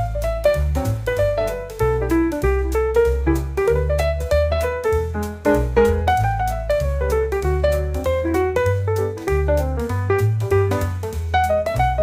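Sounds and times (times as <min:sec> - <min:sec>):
piano playing over bass line: 0:00.0 - 0:12.0.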